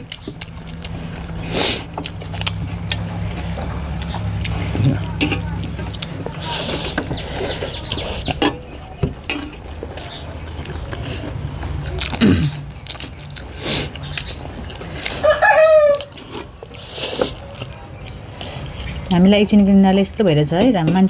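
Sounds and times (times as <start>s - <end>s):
person chewing food: 0.0s - 19.2s.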